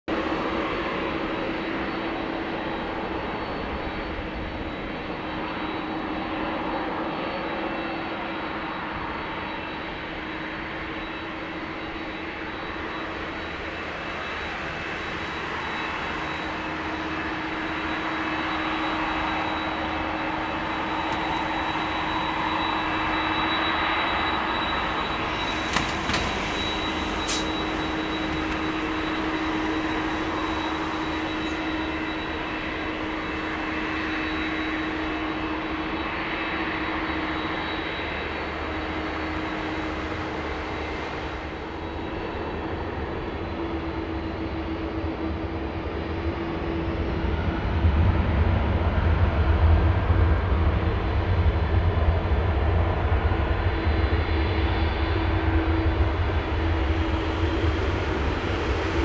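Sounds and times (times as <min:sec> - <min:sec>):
jet engines taxiing: 0:00.1 - 0:59.0.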